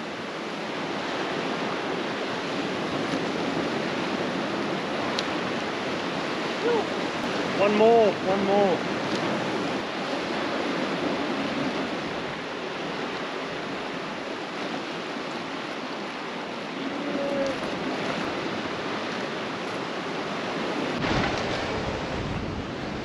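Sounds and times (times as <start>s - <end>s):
surf breaking over rocks: 0.9s - 23.0s.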